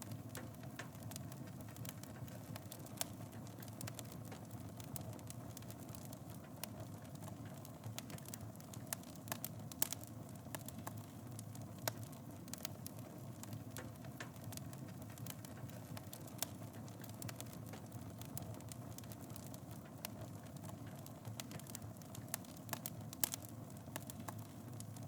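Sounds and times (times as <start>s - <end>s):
wood crackling and popping: 0.0s - 25.0s.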